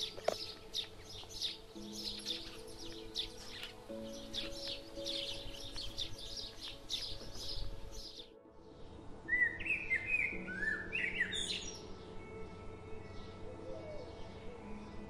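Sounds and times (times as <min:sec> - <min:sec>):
small birds twittering: 0:00.0 - 0:12.1.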